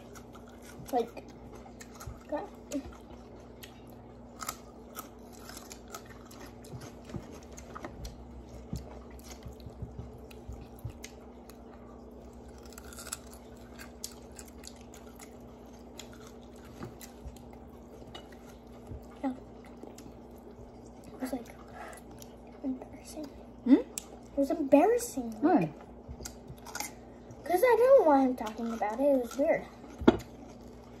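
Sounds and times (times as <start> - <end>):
person chewing food: 0.0 - 24.4, 25.2 - 27.4, 28.4 - 31.0
steady low hum: 0.0 - 31.0.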